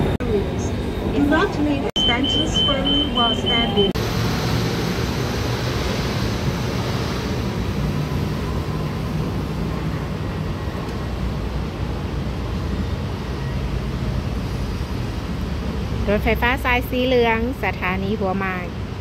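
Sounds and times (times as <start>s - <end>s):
road traffic: 0.0s - 19.0s
monorail train rumble and hiss: 2.5s - 19.0s.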